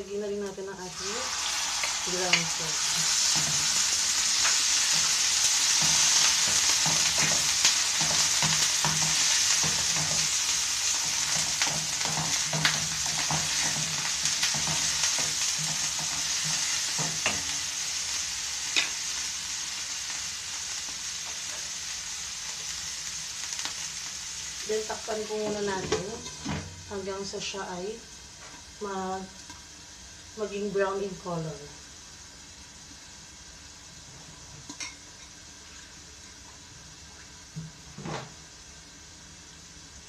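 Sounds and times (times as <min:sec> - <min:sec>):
meat sizzling in a frying pan: 0:00.0 - 0:40.0.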